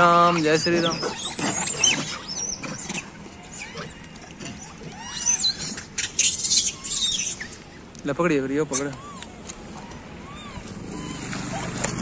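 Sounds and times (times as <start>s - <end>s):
animal squeaks and chirps: 0.0s - 7.9s, 8.6s - 11.8s.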